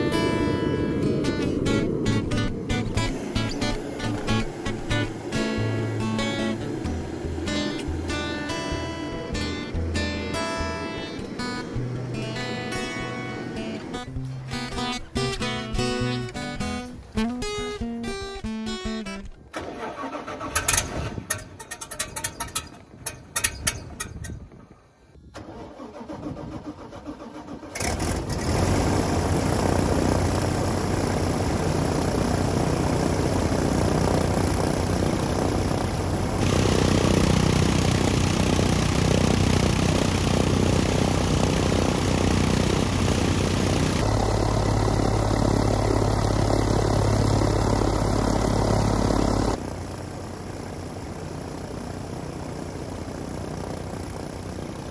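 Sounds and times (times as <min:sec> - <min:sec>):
aircraft engine starting: 0:00.0 - 0:17.7, 0:19.2 - 0:24.4, 0:25.2 - 0:54.9.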